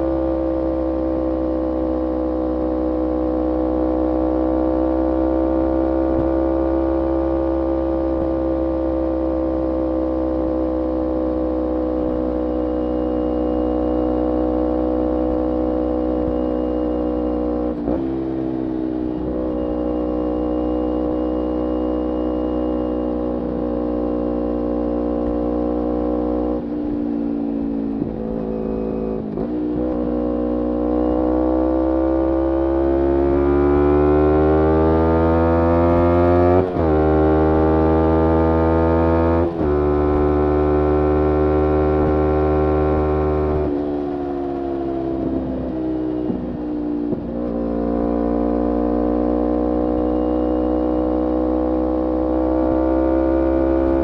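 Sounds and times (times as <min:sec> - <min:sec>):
motorcycle engine buzzing: 0:00.0 - 0:54.0.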